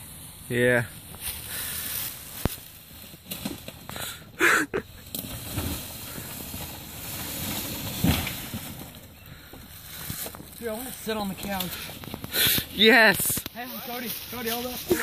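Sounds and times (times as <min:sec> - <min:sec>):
tyres crunching through dry leaves: 0:00.0 - 0:15.0.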